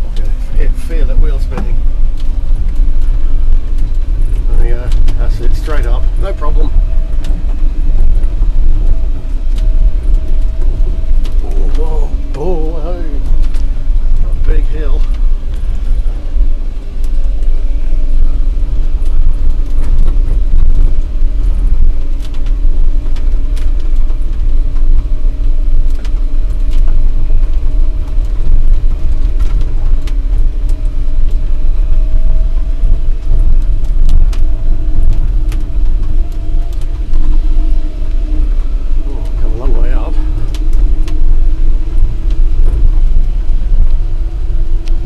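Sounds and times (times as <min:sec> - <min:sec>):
drive and road rumble: 0:00.0 - 0:45.0.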